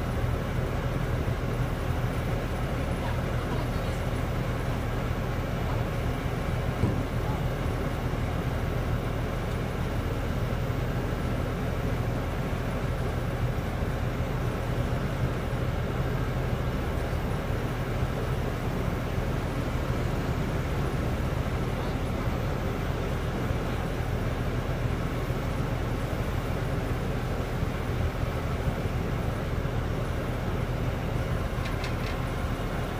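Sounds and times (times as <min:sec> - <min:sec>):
drilling rig engine running: 0:00.0 - 0:32.9.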